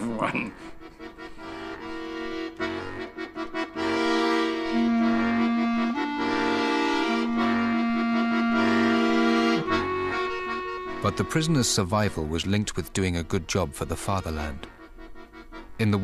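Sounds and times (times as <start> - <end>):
accordion playing a tune: 0.0 - 16.0.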